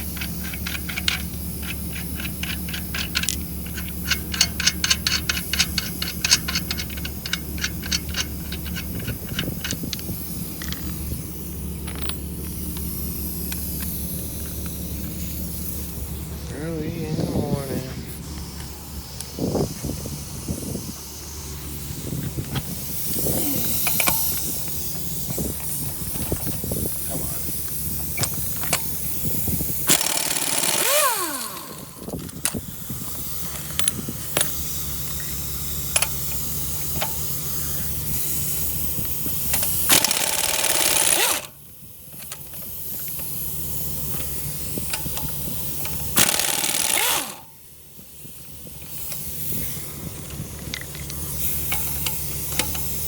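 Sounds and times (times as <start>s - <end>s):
steady mechanical hum: 0.0s - 53.0s
hissing bursts of air: 8.8s - 16.8s, 18.0s - 53.0s.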